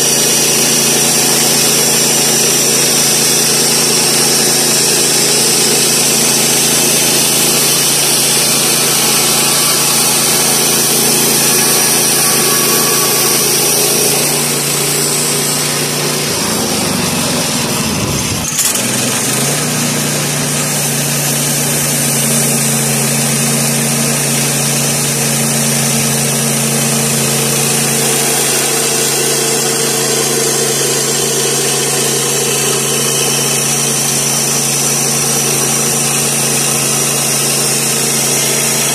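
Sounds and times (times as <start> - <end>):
band blade sawing wood: 0.0 - 38.9
gas engine running: 0.0 - 38.9.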